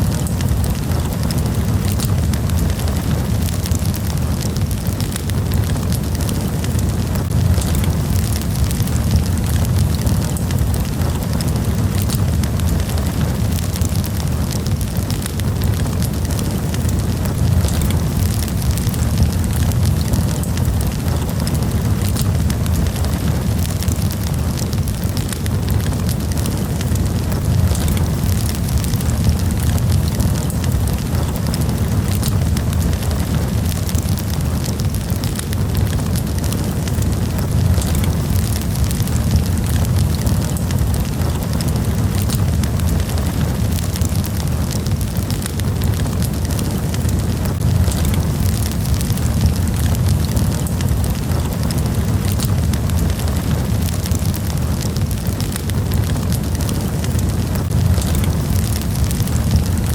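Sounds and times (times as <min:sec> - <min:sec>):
low rumble of fire: 0:00.0 - 0:59.9
wood campfire crackling and popping: 0:00.0 - 0:59.9.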